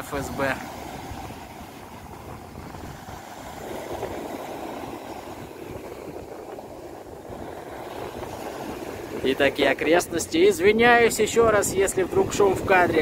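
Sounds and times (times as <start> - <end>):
small waves washing onto sand: 0.0 - 13.0
wind blowing across microphone: 0.0 - 13.0.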